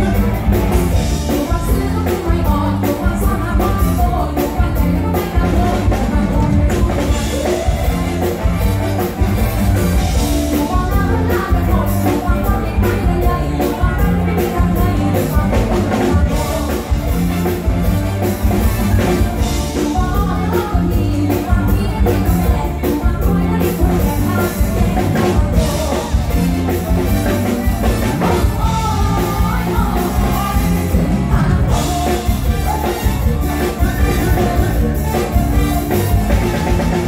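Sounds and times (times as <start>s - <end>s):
woman singing into microphone: 0.0s - 8.8s, 10.1s - 17.6s, 18.9s - 37.0s
band playing with drum beat: 0.0s - 37.0s.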